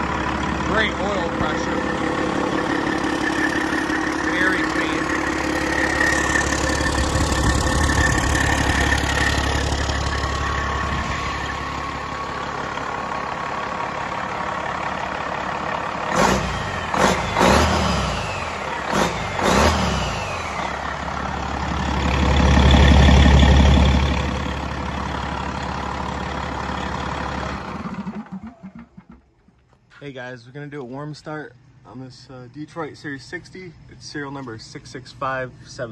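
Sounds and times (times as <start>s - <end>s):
diesel engine running: 0.0s - 29.5s.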